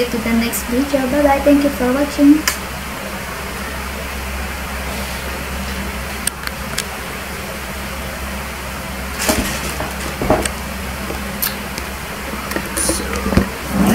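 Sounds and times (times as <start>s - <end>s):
low hum: 0.0s - 13.9s.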